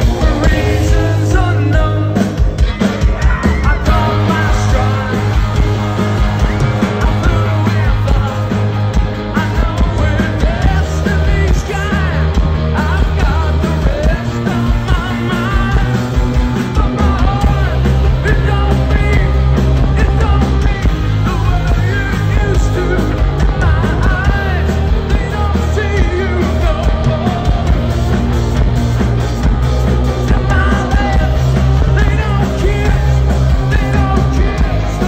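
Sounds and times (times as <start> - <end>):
man singing: 0.0 - 28.8, 29.9 - 35.0
bass guitar: 0.0 - 35.0
drums: 0.0 - 35.0
live rock band: 0.0 - 35.0.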